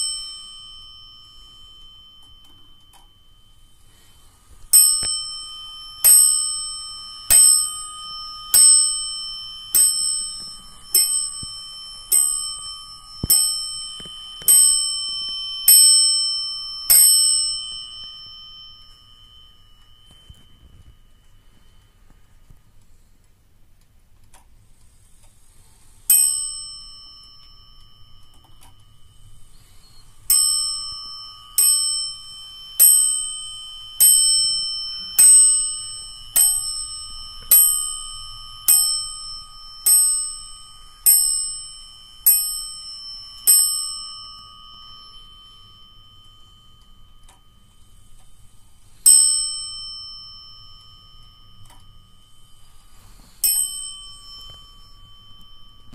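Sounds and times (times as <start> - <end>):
wall clock bell striking: 0.0 - 23.1, 25.4 - 55.9.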